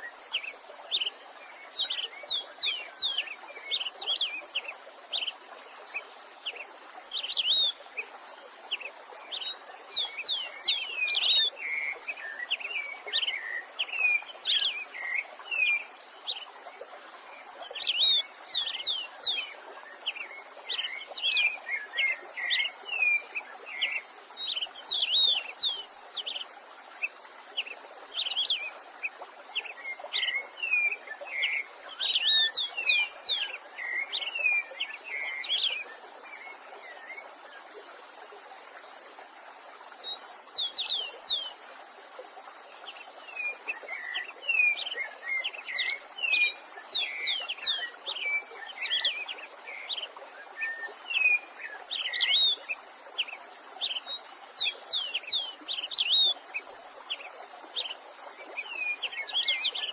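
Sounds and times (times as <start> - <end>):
songbirds chirping and trilling: 0.0 - 59.9
stream rushing: 0.0 - 59.9.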